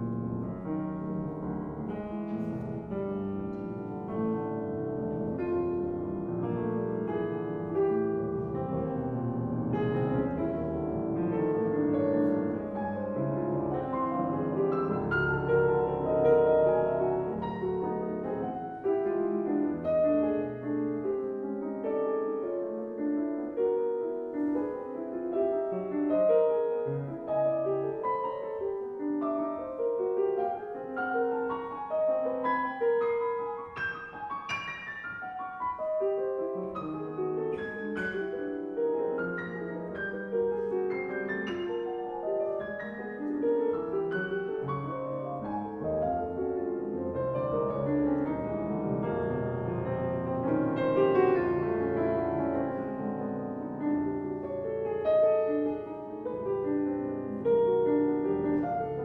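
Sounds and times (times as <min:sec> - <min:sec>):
grand piano played four hands: 0:00.0 - 0:59.0.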